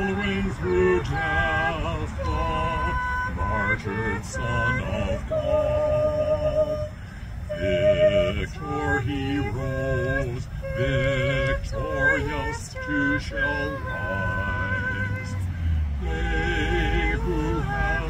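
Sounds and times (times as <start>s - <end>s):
woman and man singing: 0.0s - 18.0s.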